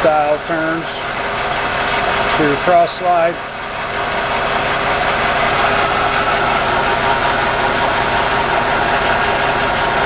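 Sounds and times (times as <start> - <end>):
lathe hum and gear whine: 0.0 - 10.0.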